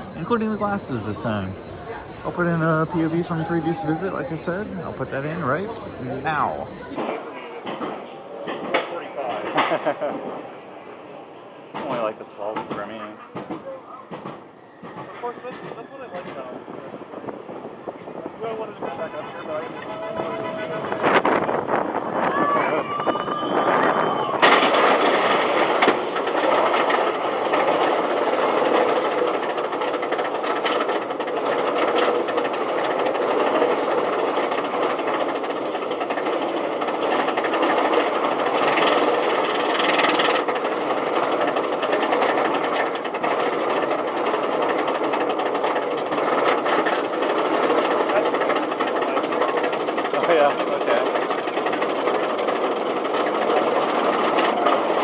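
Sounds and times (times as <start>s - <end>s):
roller coaster chain lift rattle: 0.0s - 10.6s, 11.7s - 55.0s.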